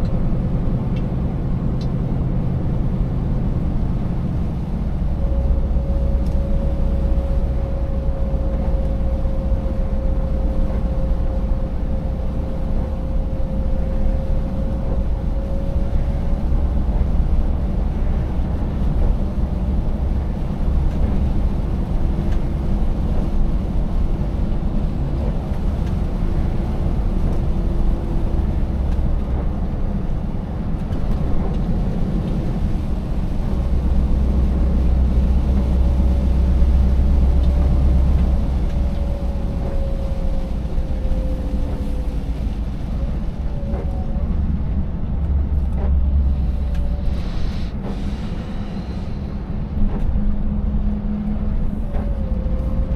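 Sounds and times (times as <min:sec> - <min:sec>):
road noise: 0:00.0 - 0:52.9
truck engine rumble: 0:00.0 - 0:52.9.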